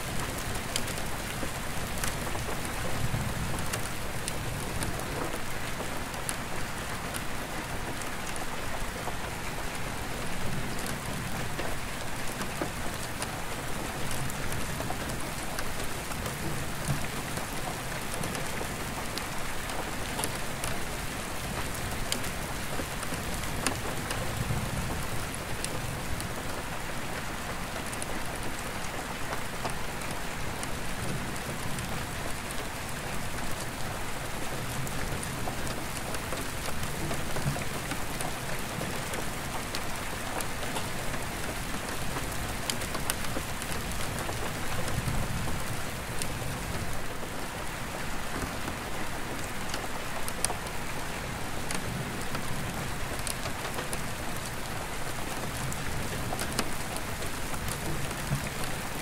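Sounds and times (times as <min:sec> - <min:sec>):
rain on a skylight: 0:00.0 - 0:59.0.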